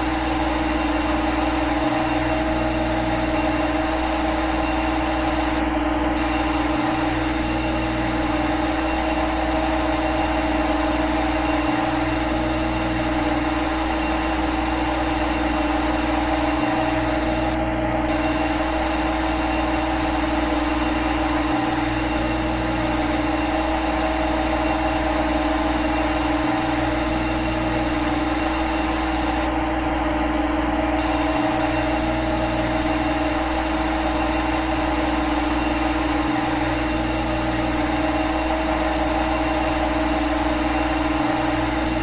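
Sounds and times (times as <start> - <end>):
machine hum with held tones: 0.0 - 42.0.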